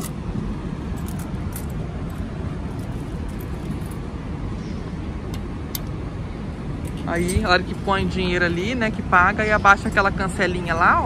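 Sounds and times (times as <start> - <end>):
low outdoor background rumble: 0.0 - 11.0.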